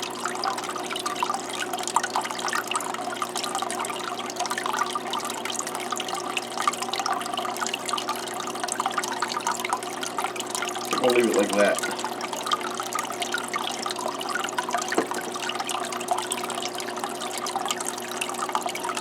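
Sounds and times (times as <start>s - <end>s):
faint steady hum: 0.0s - 19.0s
water dripping: 0.0s - 19.0s
water trickling over rocks: 0.0s - 19.0s.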